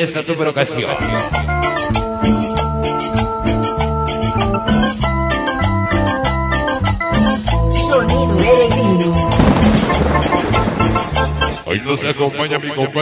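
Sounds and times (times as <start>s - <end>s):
cumbia music with keyboard chords: 1.0s - 11.7s.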